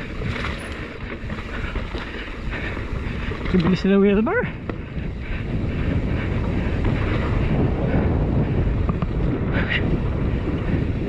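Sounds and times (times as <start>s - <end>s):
bike tyres rumbling on trail: 0.0s - 11.0s
wind buffeting microphone: 0.0s - 11.0s.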